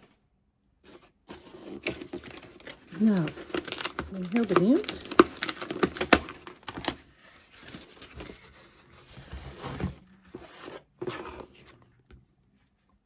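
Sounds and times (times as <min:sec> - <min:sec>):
cardboard and paper rustling: 0:00.8 - 0:13.0.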